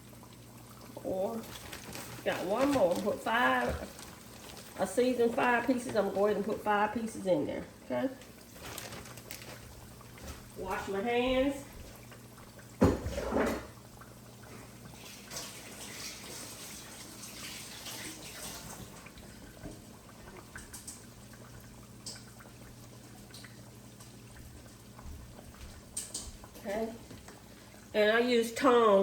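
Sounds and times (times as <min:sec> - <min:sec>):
water splashing in a sink: 0:00.0 - 0:29.0
tap running: 0:00.3 - 0:07.3, 0:08.2 - 0:14.6, 0:15.3 - 0:27.9.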